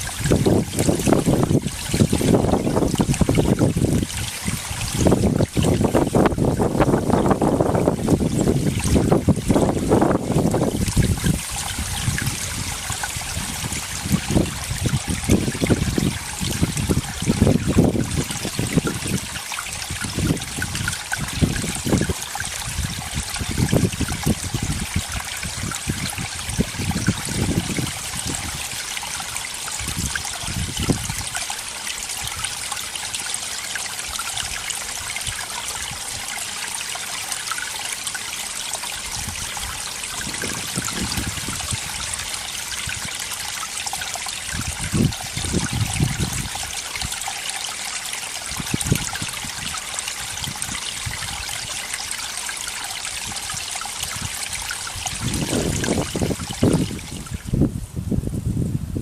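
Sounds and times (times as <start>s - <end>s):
stream water trickling: 0.0s - 58.2s.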